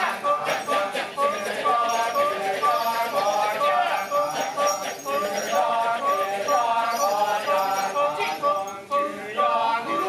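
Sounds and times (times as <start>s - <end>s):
men chanting in chorus: 0.0s - 10.0s.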